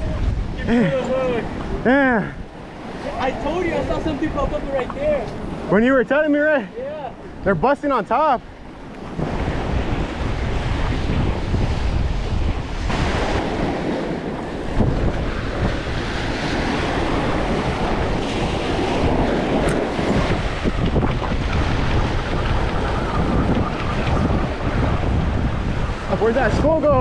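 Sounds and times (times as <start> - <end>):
surf breaking over rocks: 0.0 - 27.0
wind buffeting microphone: 0.0 - 27.0.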